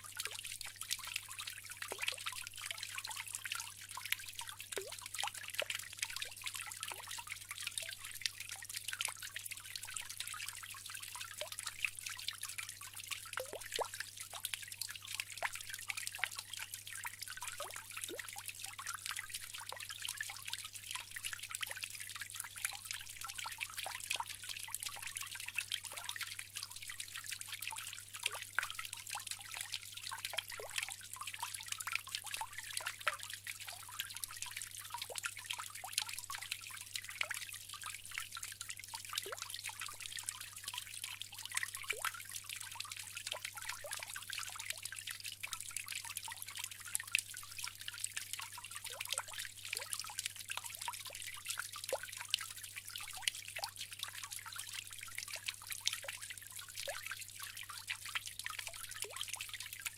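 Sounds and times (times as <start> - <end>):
water drips and plinks: 0.0 - 59.9
water fountain trickling: 0.0 - 59.9.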